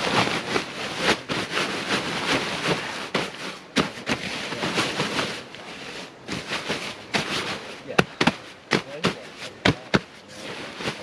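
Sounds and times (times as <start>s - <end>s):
gear rustling and scraping: 0.0s - 11.0s.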